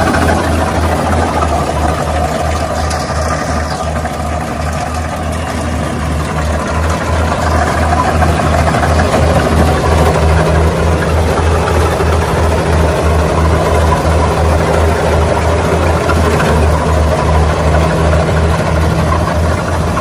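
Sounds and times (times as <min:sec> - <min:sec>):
harvester engine rumbling: 0:00.0 - 0:20.0.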